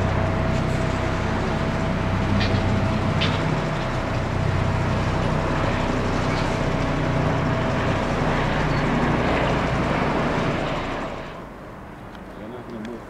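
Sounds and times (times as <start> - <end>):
helicopter flying overhead: 0.0 - 13.0
thin turbine whine: 0.0 - 13.0.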